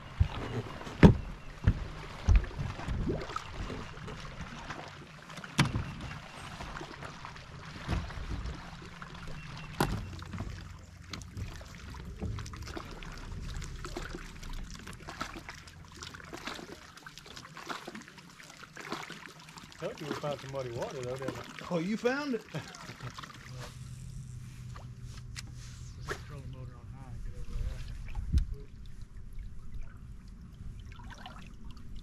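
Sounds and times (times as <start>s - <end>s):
low steady hum: 0.0s - 32.0s
water lapping against boat hull: 0.0s - 32.0s.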